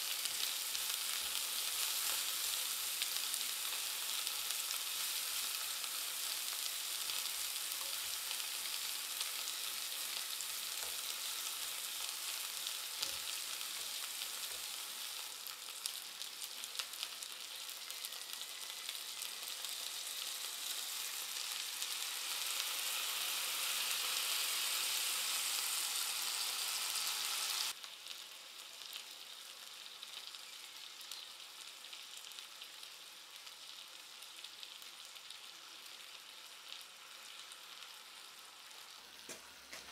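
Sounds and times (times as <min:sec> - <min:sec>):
chicken sizzling in a skillet: 0:00.0 - 0:39.9.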